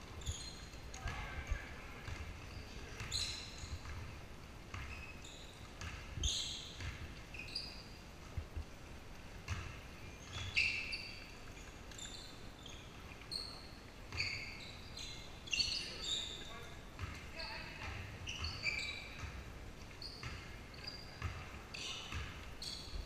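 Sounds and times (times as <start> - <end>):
sneaker squeaks: 0.0 - 8.4, 9.4 - 23.0.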